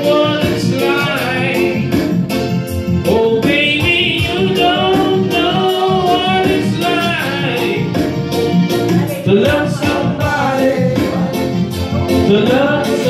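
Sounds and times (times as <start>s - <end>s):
man singing into a microphone: 0.0s - 8.0s, 9.1s - 13.0s
backing music with steady beat: 0.0s - 13.0s.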